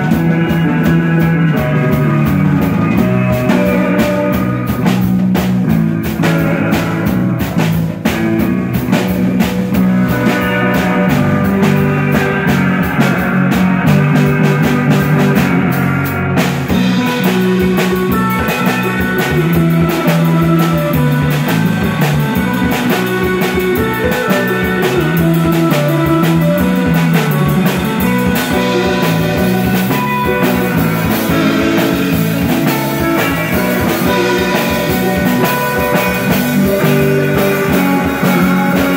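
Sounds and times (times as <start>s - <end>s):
bass line: 0.0s - 38.9s
drum kit playing: 0.0s - 38.9s
electric guitars: 0.0s - 38.9s.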